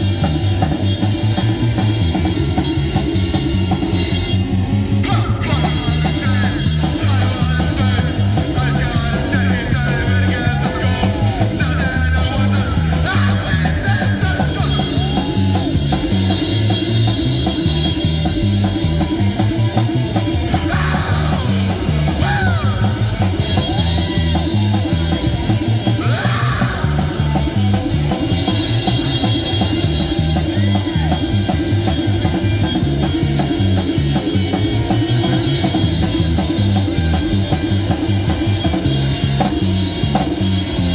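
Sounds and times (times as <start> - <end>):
drum kit beat: 0.0 - 40.9
electric guitar: 0.0 - 40.9
rock music: 0.0 - 40.9.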